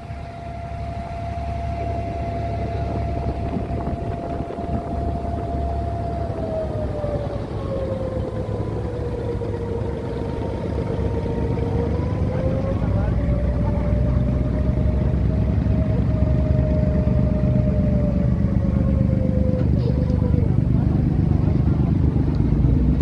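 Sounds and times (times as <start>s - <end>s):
diesel boat engine rumbling: 0.0s - 23.0s
steady engine whine: 0.0s - 23.0s.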